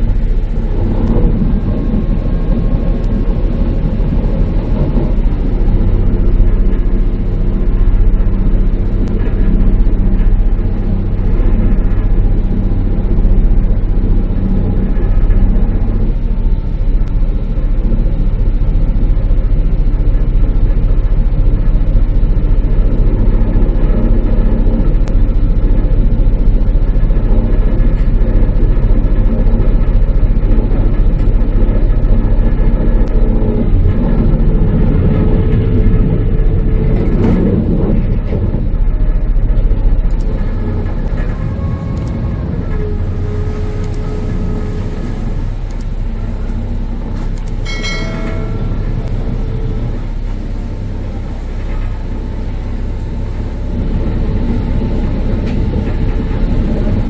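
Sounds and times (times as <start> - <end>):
ferry engines low rumble: 0.0 - 57.0.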